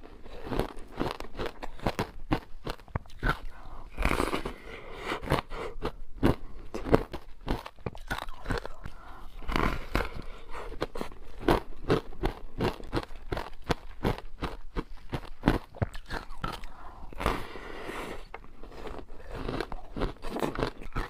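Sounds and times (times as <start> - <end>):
teeth crunching frozen ice: 0.0 - 17.6, 18.2 - 21.0.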